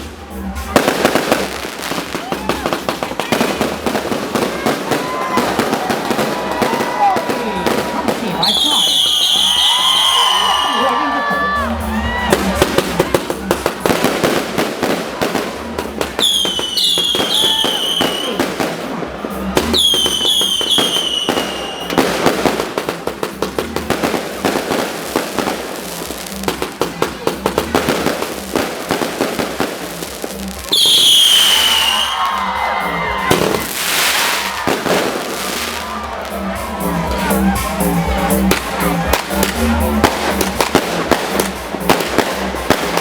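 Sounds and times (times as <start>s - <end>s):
fireworks crackling and popping: 0.0s - 43.0s
fireworks whistling: 0.0s - 43.0s.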